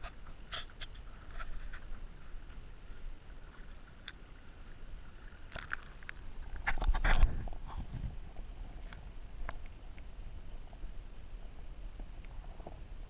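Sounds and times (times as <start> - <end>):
underwater rumble of water: 0.0 - 13.0.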